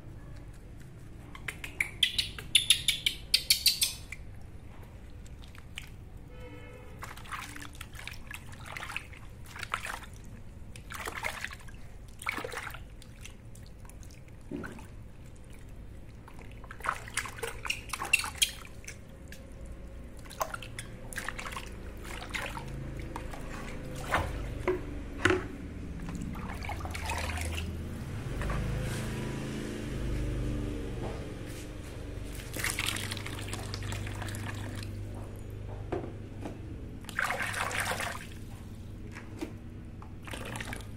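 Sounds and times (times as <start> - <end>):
water splashing and trickling: 4.0 - 30.7, 32.0 - 35.6, 36.9 - 40.9.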